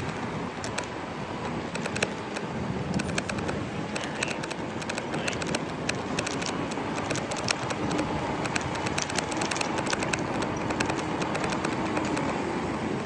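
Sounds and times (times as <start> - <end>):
small clicks and rattles: 0.0 - 12.4
car running noise: 0.0 - 13.0.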